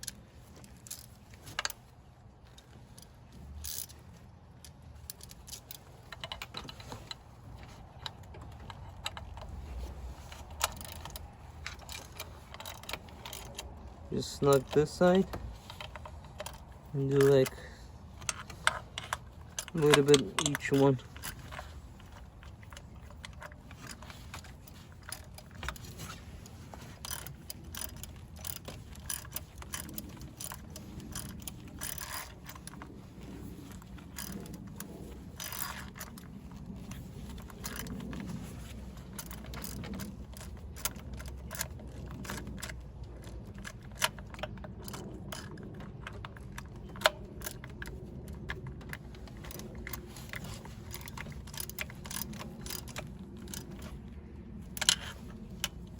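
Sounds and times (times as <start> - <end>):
hand ratchet clicking: 3.6 - 3.9, 5.1 - 26.2, 26.8 - 32.8, 33.6 - 54.1
metal tools clinking: 5.0 - 54.1.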